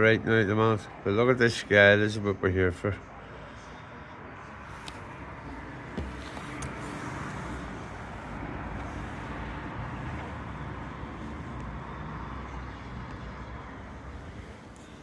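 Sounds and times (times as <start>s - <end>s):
road traffic rumble and hiss: 0.0s - 15.0s.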